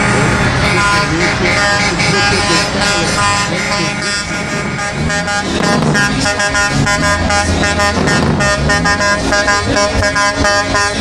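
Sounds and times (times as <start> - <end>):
steady low rumble: 0.0 - 11.0
truck air horn blasts: 0.0 - 11.0.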